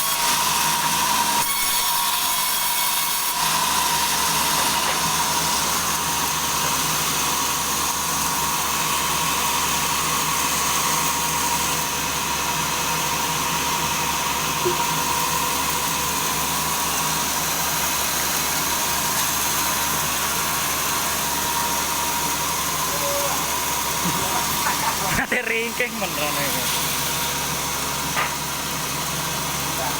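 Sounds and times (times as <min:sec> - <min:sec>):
sawmill machinery whining: 0:00.0 - 0:29.9.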